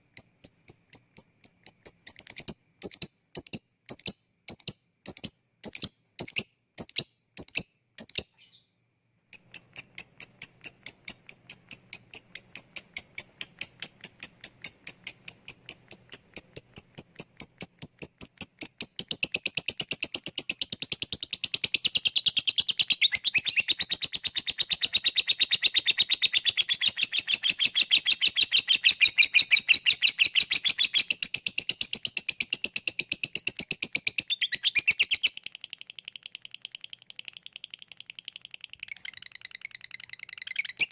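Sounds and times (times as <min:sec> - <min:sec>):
lovebird chirping: 0:00.0 - 0:40.9.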